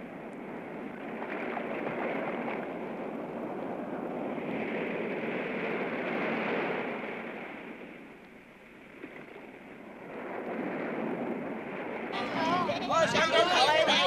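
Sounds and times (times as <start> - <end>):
surf rushing: 0.0 - 14.0
wind: 0.0 - 14.0.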